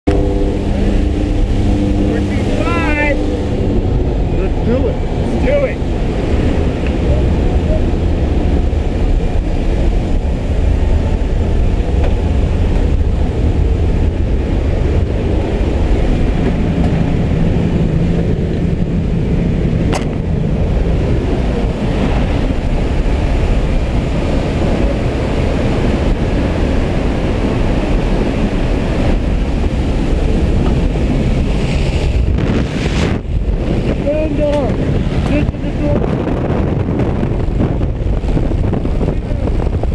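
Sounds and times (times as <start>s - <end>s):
rushing wind: 0.0s - 39.9s
plane engine and propeller drone: 0.1s - 39.9s.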